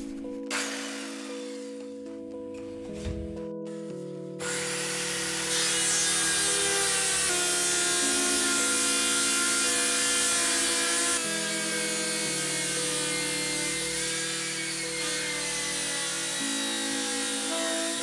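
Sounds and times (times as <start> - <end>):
background music with held chords: 0.0 - 18.0
jigsaw cutting chipboard: 0.5 - 1.8, 4.4 - 18.0.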